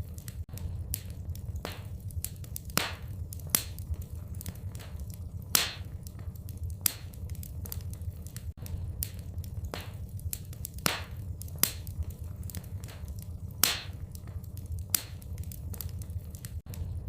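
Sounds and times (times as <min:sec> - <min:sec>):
fireplace fire crackling and popping: 0:00.0 - 0:17.0
low rumble: 0:00.0 - 0:17.0.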